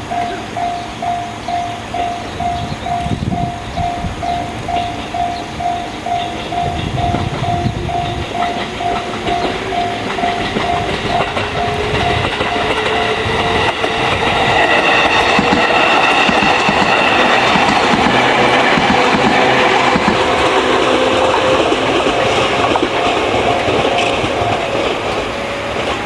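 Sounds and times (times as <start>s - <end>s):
level crossing alarm ringing: 0.0s - 26.0s
train wheels clacking over rails: 0.0s - 26.0s.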